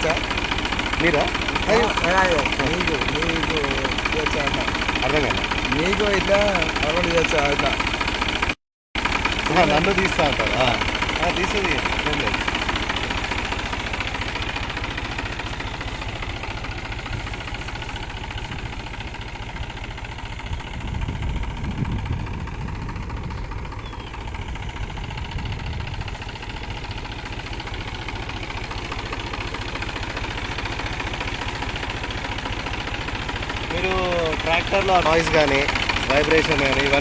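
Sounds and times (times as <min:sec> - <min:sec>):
tractor diesel engine idling: 0:00.0 - 0:37.0.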